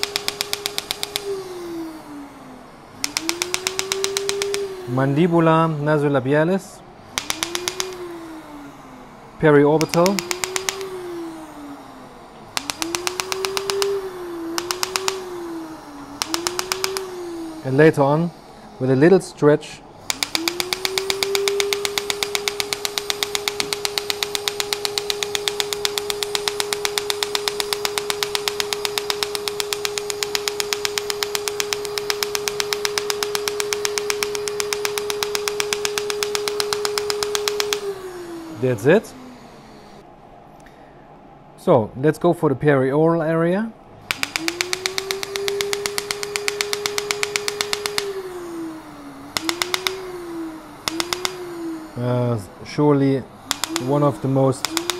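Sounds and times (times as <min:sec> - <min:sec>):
laser pulses popping: 0:00.0 - 0:01.8, 0:02.9 - 0:40.0, 0:44.0 - 0:54.9
steady hum: 0:00.0 - 0:54.9
steady whine: 0:00.0 - 0:54.9.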